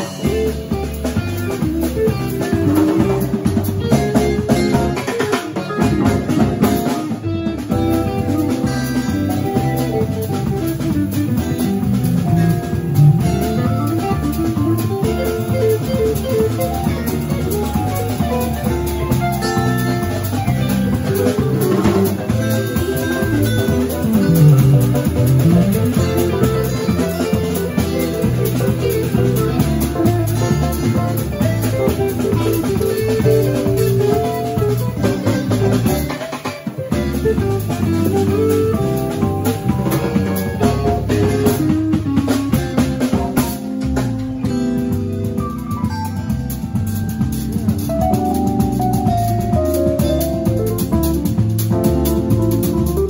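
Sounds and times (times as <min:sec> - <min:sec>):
drum kit: 0:00.0 - 0:53.0
electric guitar: 0:00.0 - 0:53.0
low sliding guitar notes: 0:00.0 - 0:53.0.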